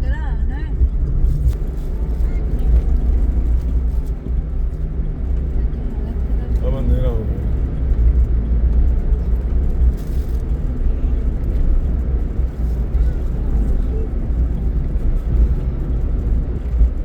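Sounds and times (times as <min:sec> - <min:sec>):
car driving on highway: 0:00.0 - 0:17.0.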